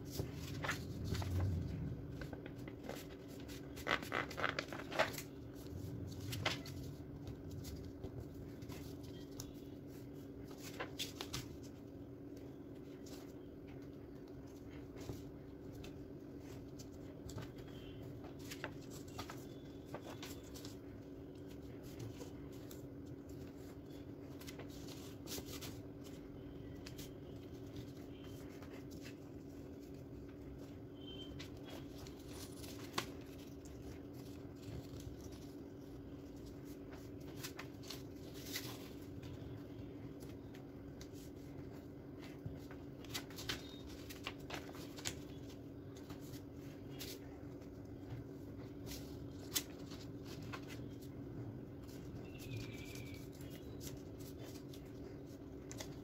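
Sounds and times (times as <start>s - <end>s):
paper crackling and rustling: 0.0s - 56.0s
steady low hum: 0.0s - 56.0s.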